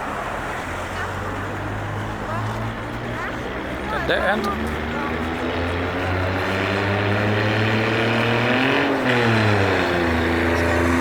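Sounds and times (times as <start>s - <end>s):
vehicle engine revving: 0.3s - 11.0s.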